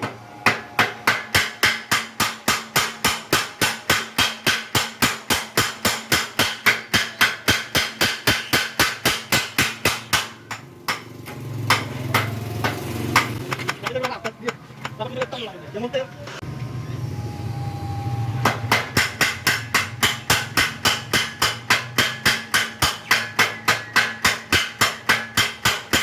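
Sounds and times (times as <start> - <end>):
power hammer pounding: 0.0 - 14.6, 18.4 - 26.0.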